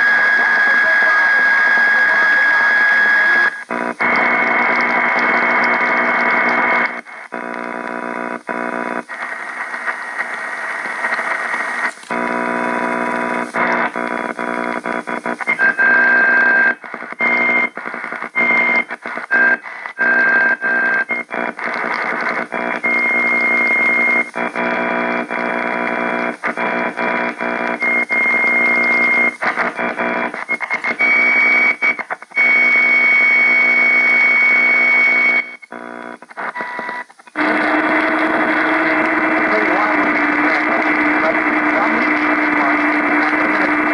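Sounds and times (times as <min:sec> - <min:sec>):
radio whistle tones: 0:00.0 - 0:07.3, 0:12.8 - 0:24.5, 0:26.4 - 0:43.9
radio static buzzing: 0:00.0 - 0:43.9.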